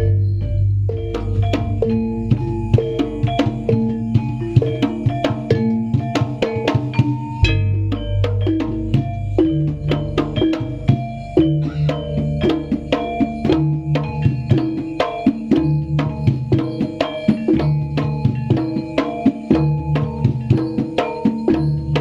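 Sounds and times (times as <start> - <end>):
hand drums beating: 0.0 - 22.0
metallophones ringing: 0.0 - 22.0.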